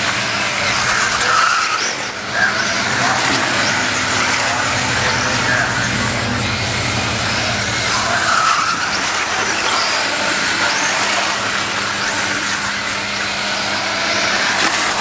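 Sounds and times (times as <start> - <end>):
small engines whining: 0.0 - 15.0.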